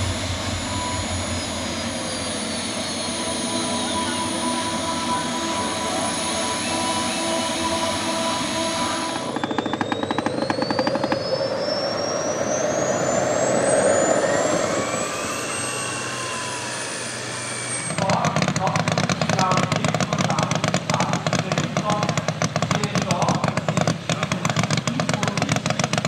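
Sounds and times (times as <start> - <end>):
turbine engines whining: 0.0 - 26.0
turbine spooling up: 0.0 - 26.0.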